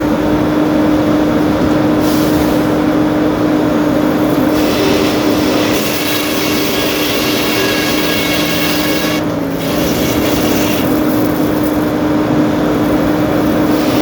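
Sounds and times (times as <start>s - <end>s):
sawmill machinery running: 0.0s - 14.0s.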